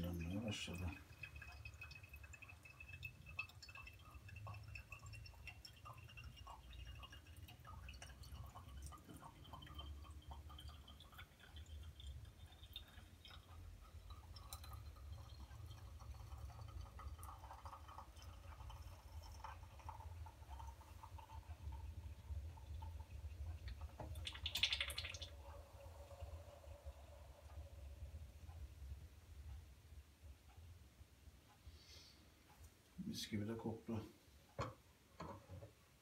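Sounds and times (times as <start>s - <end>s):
coffee dripping ticks: 0.0s - 31.3s.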